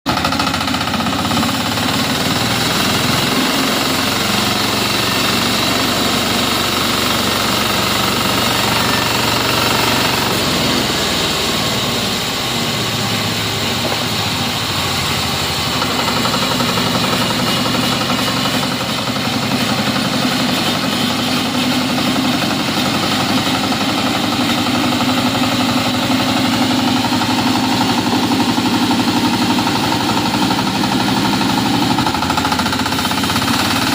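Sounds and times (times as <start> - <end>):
engine-driven sawmill rattling: 0.0 - 33.9.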